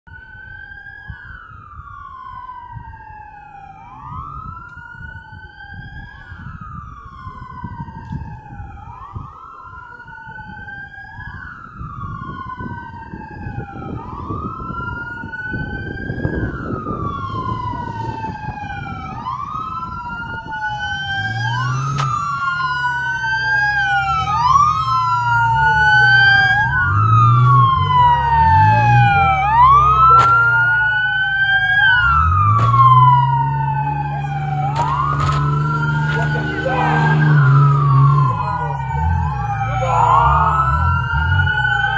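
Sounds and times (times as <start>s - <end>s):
police sirens wailing: 0.1s - 41.9s.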